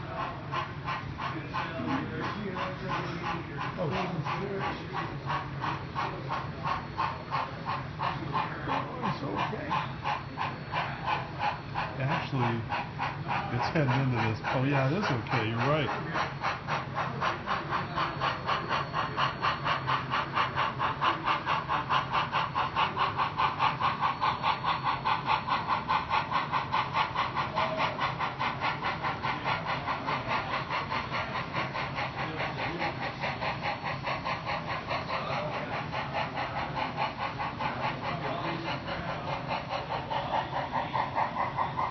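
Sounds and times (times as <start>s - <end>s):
model steam locomotive chuffing: 0.0s - 41.9s.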